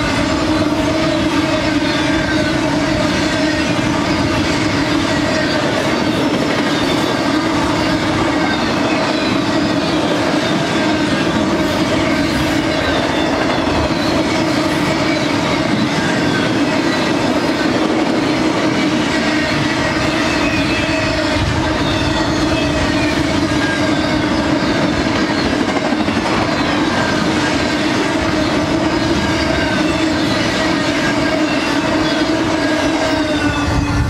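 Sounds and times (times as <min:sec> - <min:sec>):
high-pitched wheel squeal: 0:00.0 - 0:34.0
steel wheels rolling on rails: 0:00.0 - 0:34.0.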